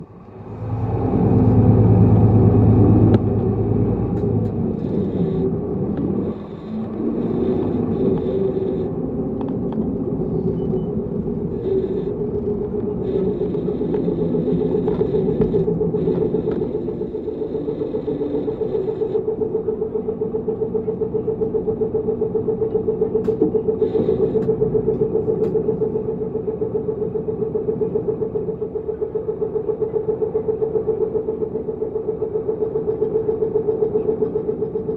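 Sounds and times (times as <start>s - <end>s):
bus engine running: 0.0s - 34.9s.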